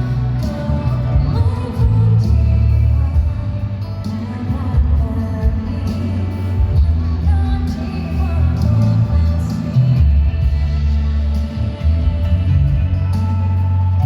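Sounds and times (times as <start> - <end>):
pop song with singing: 0.0 - 14.0
strong bass line: 0.0 - 14.0.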